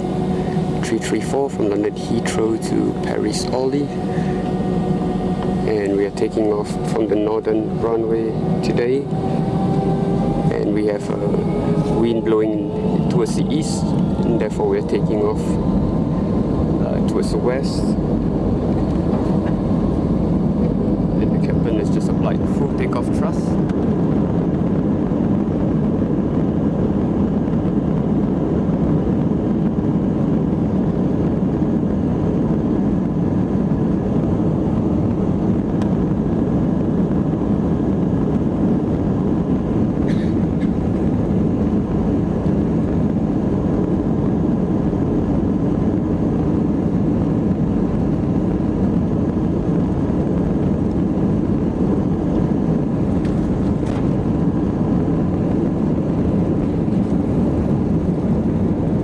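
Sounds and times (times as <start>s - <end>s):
jet engines roaring: 0.0s - 59.0s
rush of air noise: 0.0s - 59.0s.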